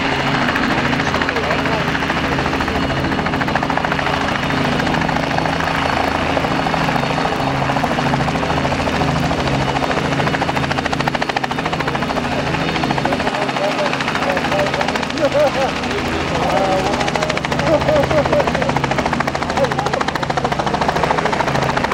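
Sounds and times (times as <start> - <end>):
helicopter rotor chopping: 0.0 - 21.9.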